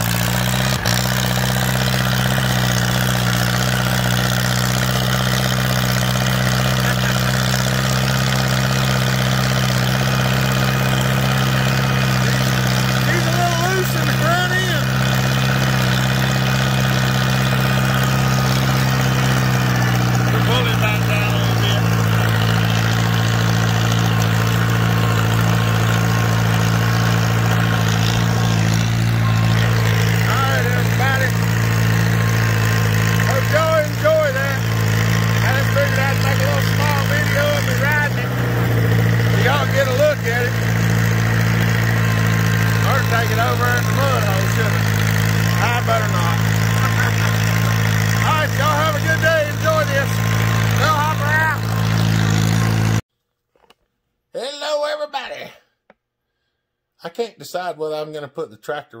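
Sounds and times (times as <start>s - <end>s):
tractor engine running: 0.0s - 53.1s.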